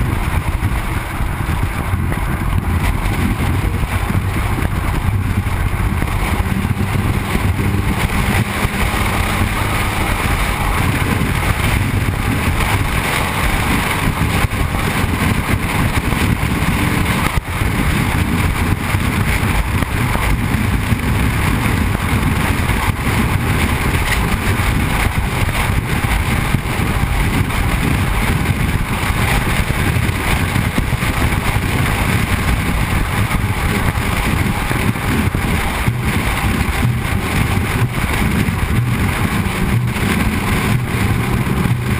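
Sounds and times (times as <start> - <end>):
tyre on road noise: 0.0 - 41.9
wind rush from moving car: 0.0 - 41.9.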